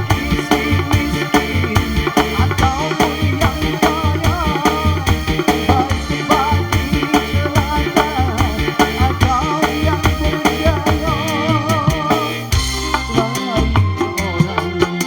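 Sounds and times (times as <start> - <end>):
drum beat: 0.0 - 15.0
live band playing: 0.0 - 15.0.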